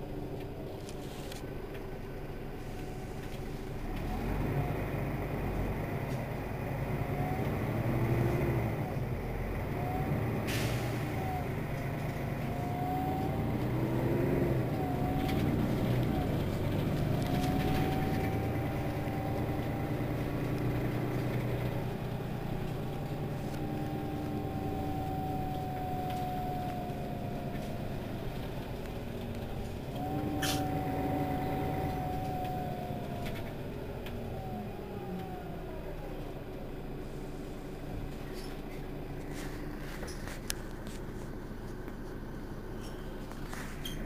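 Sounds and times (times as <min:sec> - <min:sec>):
bus engine whining: 0:00.0 - 0:44.0.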